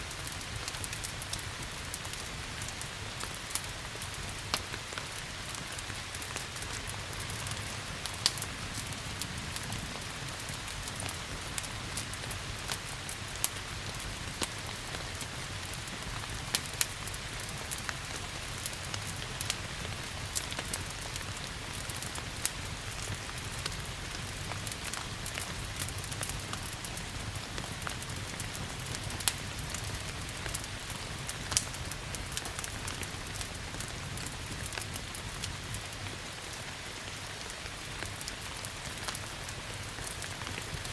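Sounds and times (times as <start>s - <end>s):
steady rain hiss: 0.0s - 40.9s
wood fire popping and crackling: 0.0s - 40.9s.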